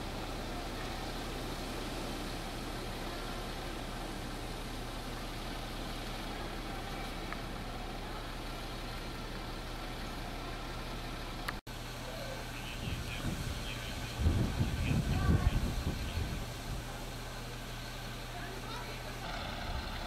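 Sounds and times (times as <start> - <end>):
truck engines idling: 0.0 - 20.0.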